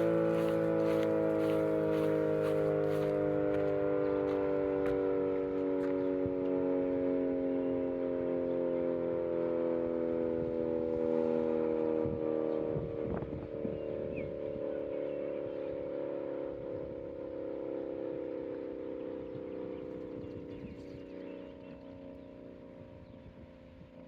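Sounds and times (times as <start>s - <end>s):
tornado siren winding down: 0.0s - 24.0s.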